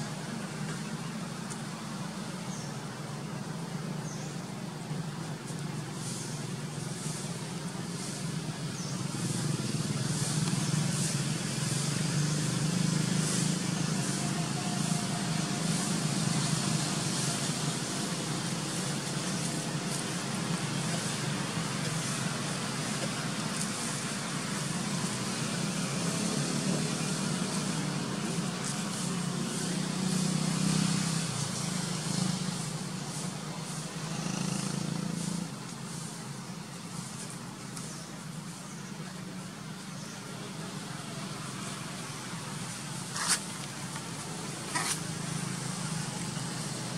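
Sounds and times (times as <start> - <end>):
outdoor background rumble: 0.0 - 46.9.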